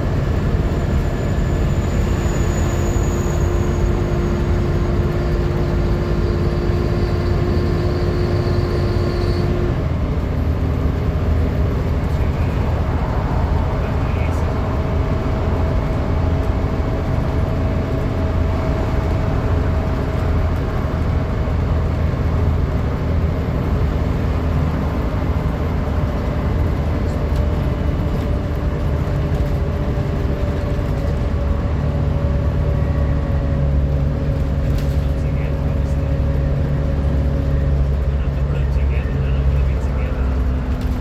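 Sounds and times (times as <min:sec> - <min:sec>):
bus diesel engine rumble: 0:00.0 - 0:41.0
loud engine whine: 0:00.0 - 0:41.0.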